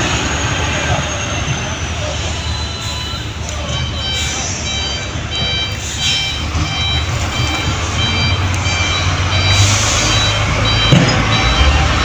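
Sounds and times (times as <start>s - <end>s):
diesel engine running: 0.0s - 12.0s
reversing alarm beeping: 0.0s - 12.0s.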